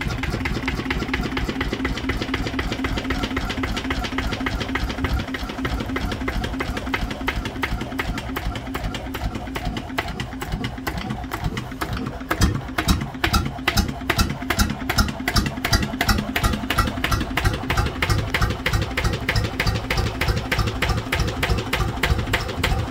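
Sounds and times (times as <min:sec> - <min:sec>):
stationary diesel engine running: 0:00.0 - 0:22.9.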